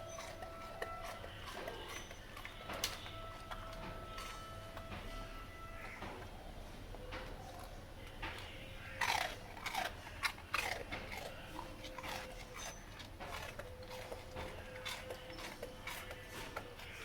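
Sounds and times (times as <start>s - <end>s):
dog chewing and crunching food: 0.0s - 17.0s.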